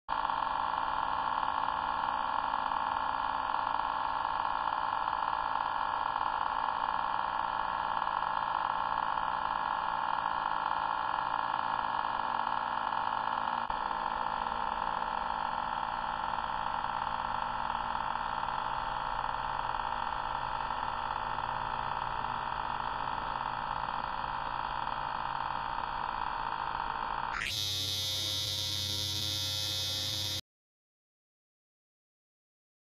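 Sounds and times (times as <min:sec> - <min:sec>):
hair trimmer buzzing: 0:00.2 - 0:30.4.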